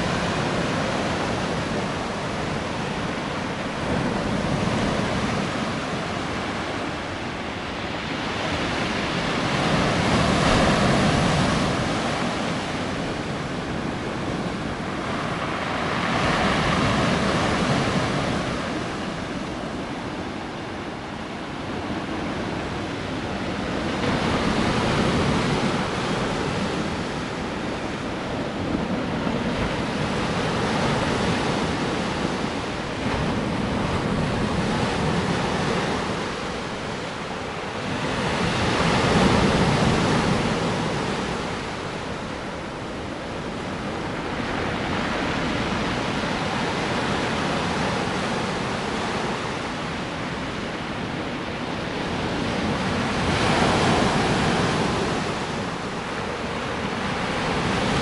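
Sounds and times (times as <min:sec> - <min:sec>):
waves washing onto shore: 0:00.0 - 0:58.0.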